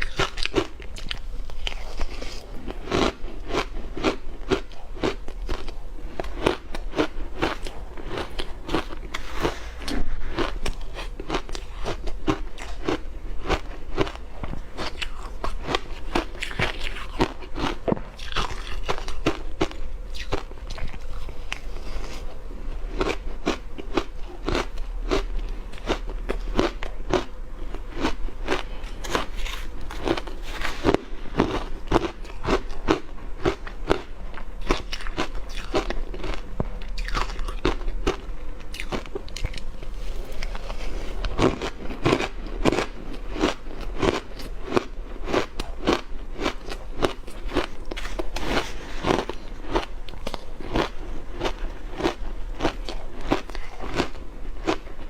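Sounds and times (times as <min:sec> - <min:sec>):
ice crunching being chewed: 0:00.0 - 0:55.0.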